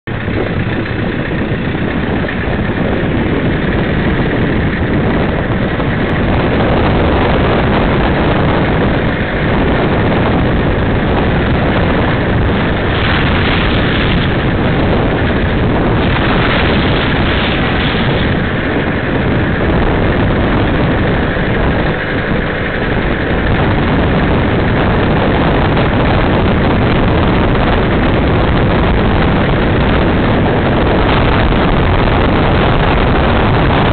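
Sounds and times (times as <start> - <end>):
engine running: 0.0 - 33.9
rush of noise: 0.0 - 33.9.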